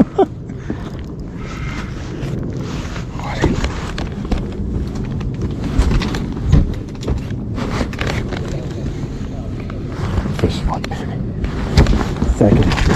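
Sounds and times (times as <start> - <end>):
knocks and thumps: 0.0 - 8.8, 10.0 - 12.9
wind rumbling on microphone: 0.0 - 12.9.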